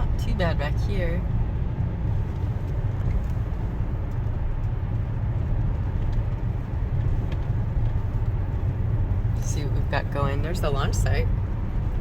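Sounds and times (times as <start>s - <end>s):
car interior road noise: 0.0s - 12.0s.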